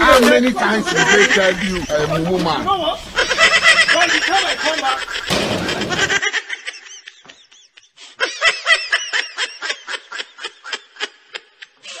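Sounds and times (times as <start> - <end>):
high-pitched laughter: 0.7 - 2.2, 3.0 - 12.0.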